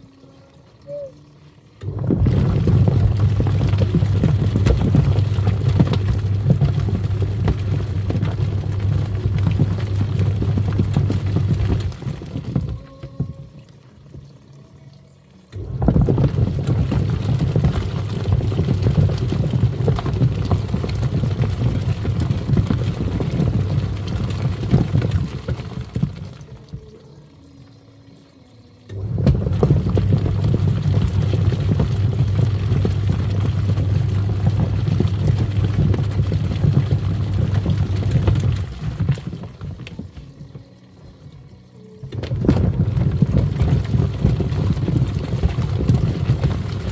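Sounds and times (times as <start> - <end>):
motor hum: 0.0 - 46.9
water sloshing in washing machine: 0.0 - 46.9.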